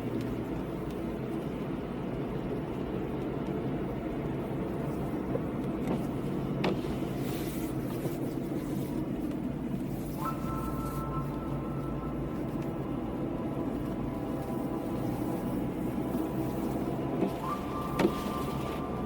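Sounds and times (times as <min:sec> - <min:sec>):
car driving on wet road: 0:00.0 - 0:19.0.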